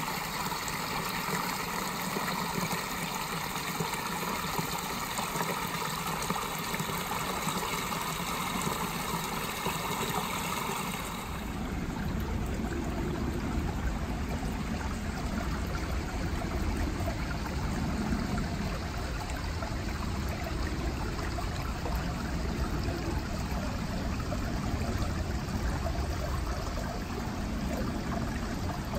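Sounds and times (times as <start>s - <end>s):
stream splashing over cascade: 0.0s - 28.9s.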